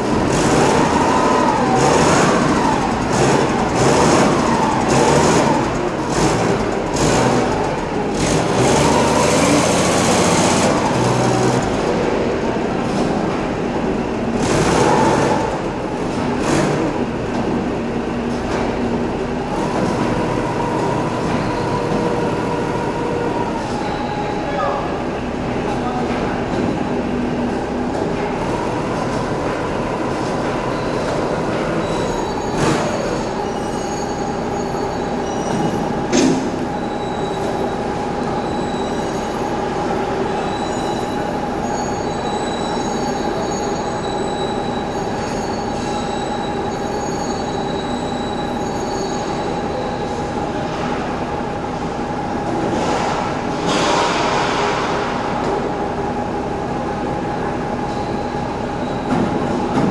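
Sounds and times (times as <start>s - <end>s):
crane motor whining: 0.0s - 52.7s
workshop machinery noise: 0.0s - 59.9s.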